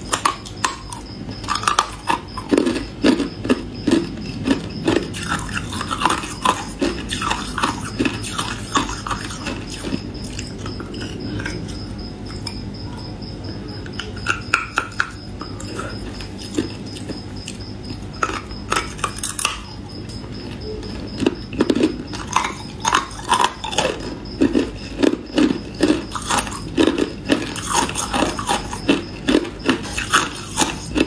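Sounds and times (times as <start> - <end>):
ice being chewed: 0.0 - 13.1, 13.9 - 31.0.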